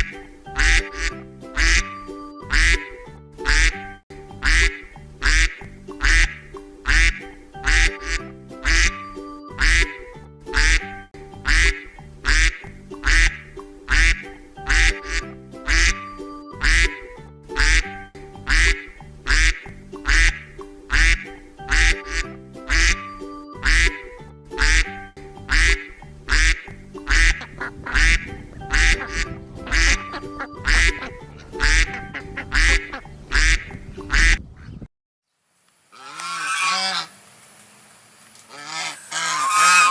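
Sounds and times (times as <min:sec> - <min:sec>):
duck quacking: 0:00.0 - 0:03.8, 0:04.4 - 0:23.0, 0:23.6 - 0:34.8, 0:36.0 - 0:37.1, 0:38.5 - 0:39.9
background music with low beat: 0:00.0 - 0:34.4.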